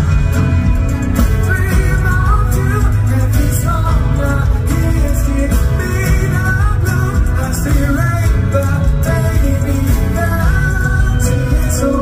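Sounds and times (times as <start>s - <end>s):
live pop band with singing: 0.0s - 12.0s.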